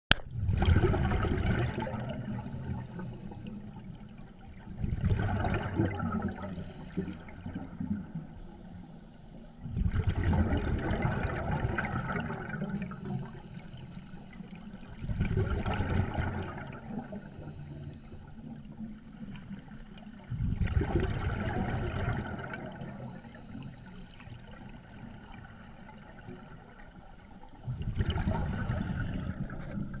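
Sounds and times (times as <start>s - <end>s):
exhaled bubbles gurgling underwater: 0.1s - 30.0s.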